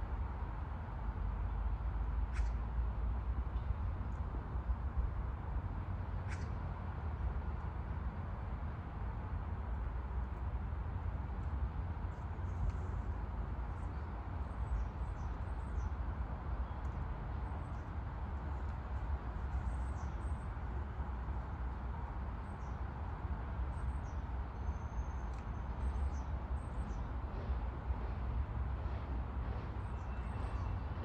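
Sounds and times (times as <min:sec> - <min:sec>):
wind: 0:00.0 - 0:31.0
distant traffic: 0:00.3 - 0:31.0.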